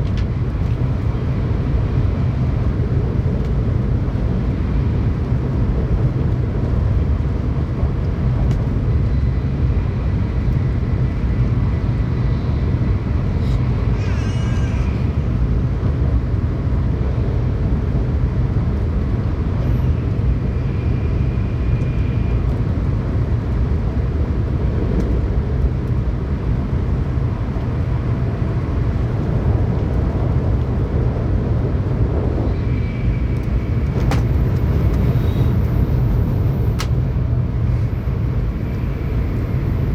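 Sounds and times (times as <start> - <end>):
train rumble from inside: 0.0 - 39.9.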